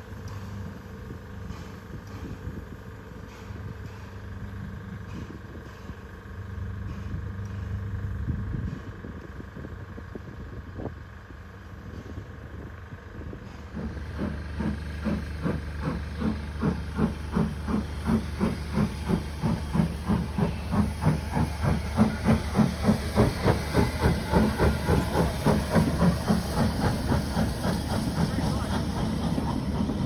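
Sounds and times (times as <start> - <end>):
steam locomotive chuffing: 0.0 - 30.0.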